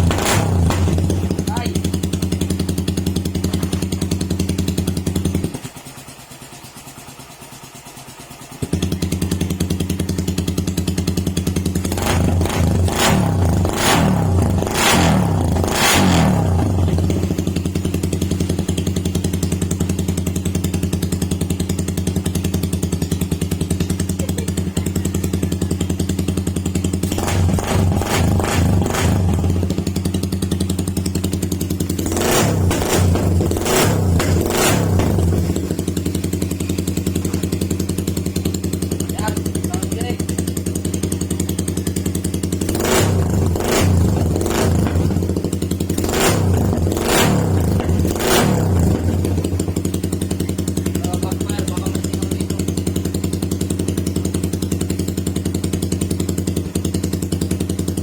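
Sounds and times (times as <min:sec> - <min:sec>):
motorcycle engine idling: 0:00.0 - 0:58.0
motorcycle engine revving: 0:00.0 - 0:58.0.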